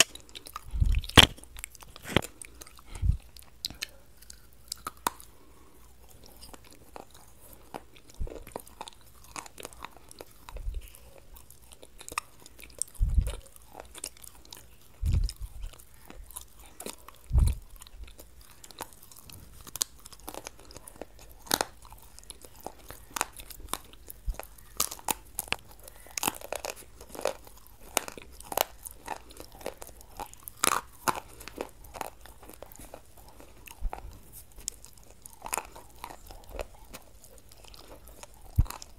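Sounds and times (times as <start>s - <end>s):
crunching and wet chewing: 0.0s - 38.9s.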